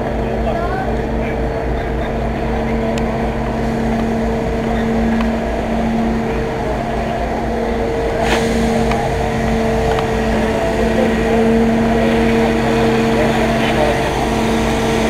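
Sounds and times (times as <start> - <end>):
fire truck engine droning: 0.0 - 15.0.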